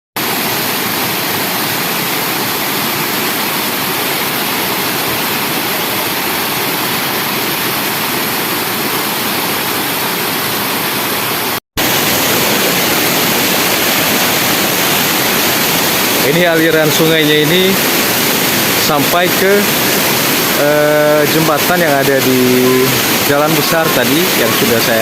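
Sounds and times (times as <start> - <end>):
waterfall rushing: 0.2 - 25.0.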